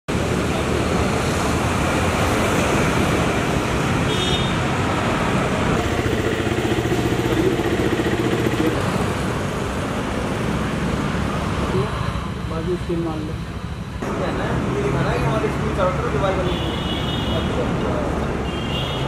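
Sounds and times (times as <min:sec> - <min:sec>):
road traffic noise: 0:00.0 - 0:19.0
vehicle engine running nearby: 0:00.1 - 0:16.4.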